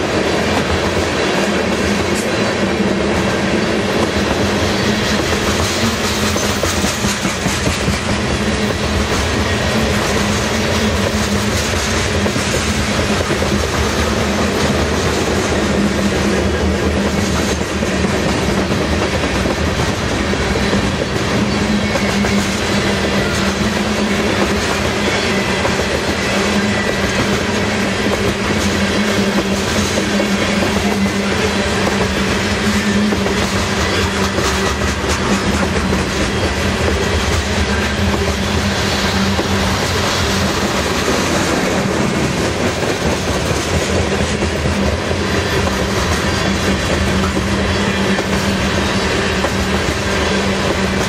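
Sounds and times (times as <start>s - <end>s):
steel train wheels rumbling on rail: 0.0s - 51.0s.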